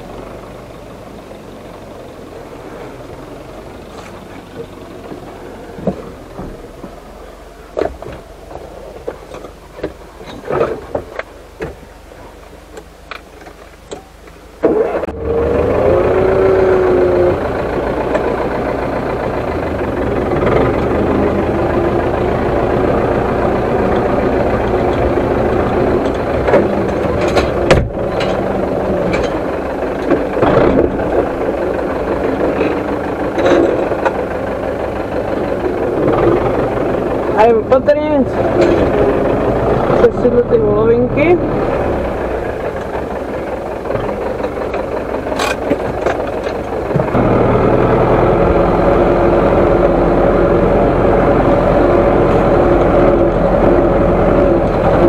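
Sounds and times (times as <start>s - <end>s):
diesel tractor engine starting and running: 0.0s - 55.0s.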